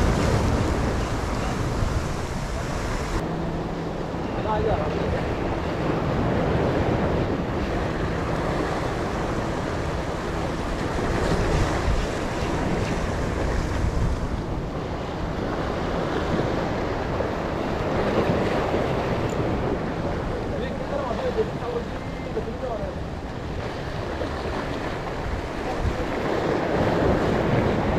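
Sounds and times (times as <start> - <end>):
waves breaking on rocks: 0.0 - 3.2, 5.8 - 27.9
wind buffeting microphone: 0.0 - 27.9.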